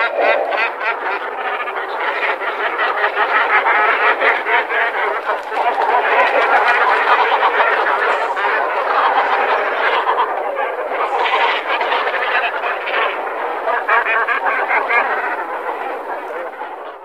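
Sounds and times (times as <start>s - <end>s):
cormorants calling: 0.0s - 17.0s.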